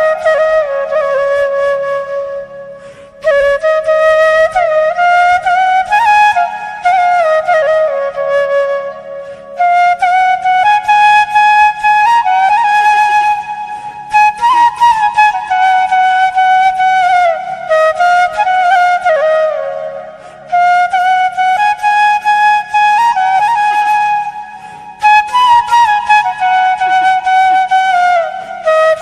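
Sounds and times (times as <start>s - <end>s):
bamboo flute melody: 0.0s - 29.0s.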